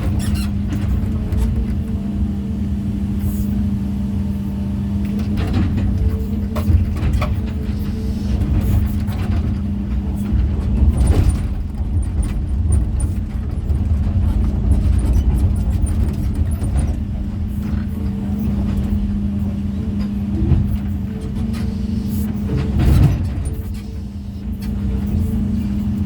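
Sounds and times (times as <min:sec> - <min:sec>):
excavator engine rumbling: 0:00.0 - 0:26.0.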